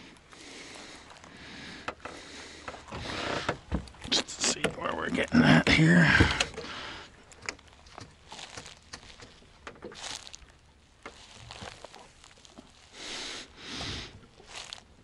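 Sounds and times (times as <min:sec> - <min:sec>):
fish handled taps and rustles: 0:00.2 - 0:12.9.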